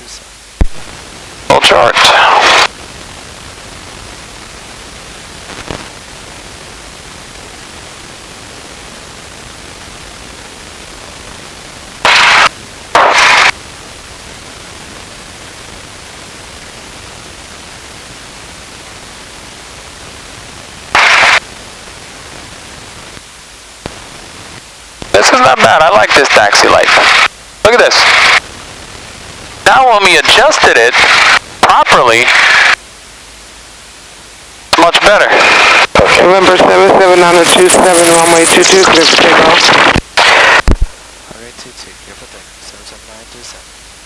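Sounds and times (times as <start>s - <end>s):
loud static crackles: 0.0s - 44.0s
radio static hiss: 0.0s - 44.0s.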